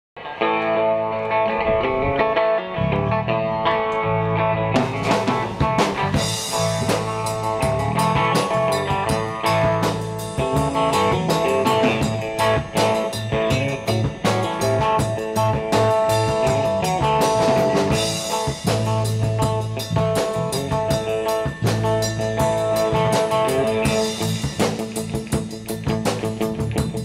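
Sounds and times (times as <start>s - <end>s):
electric guitar: 0.2s - 27.0s
electric bass: 0.4s - 27.0s
drums and cymbals: 4.8s - 27.0s.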